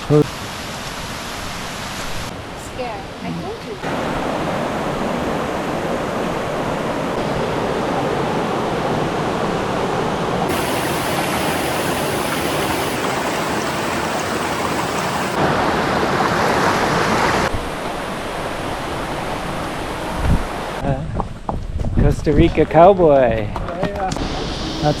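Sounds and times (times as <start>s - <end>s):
river water and waterfalls rushing: 0.0s - 20.8s.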